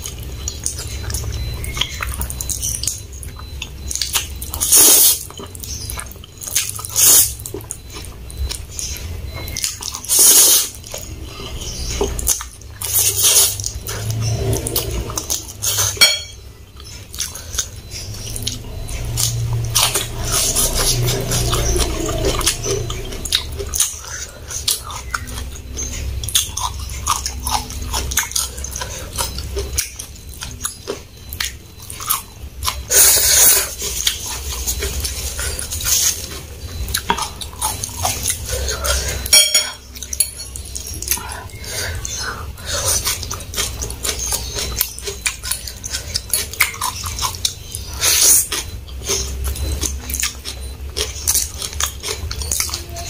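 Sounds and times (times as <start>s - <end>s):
chewing noodles and cabbage: 0.0s - 53.0s.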